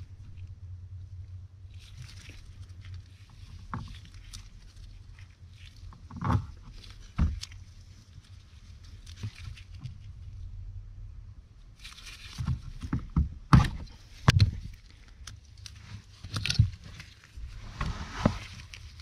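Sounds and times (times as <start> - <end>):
wires rustling: 0.0 - 10.5, 11.7 - 19.0.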